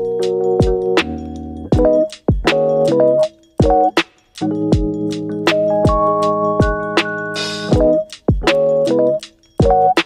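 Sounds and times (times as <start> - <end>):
electronic kick-drum beat: 0.0 - 10.0
held keyboard chords: 0.0 - 10.0.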